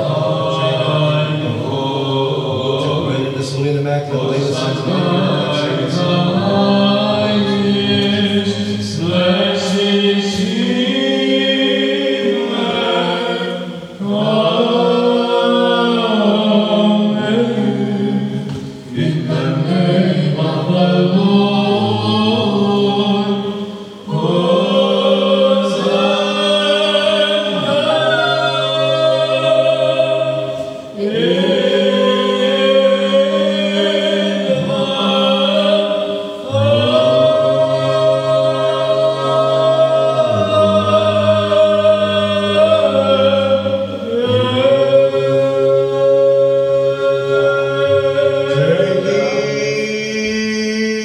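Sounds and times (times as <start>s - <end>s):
voices chanting: 0.0s - 51.0s.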